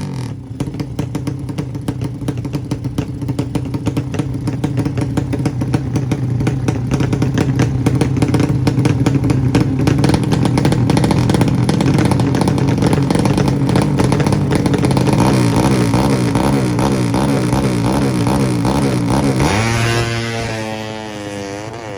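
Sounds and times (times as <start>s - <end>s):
motorcycle engine running loud: 0.0s - 21.9s.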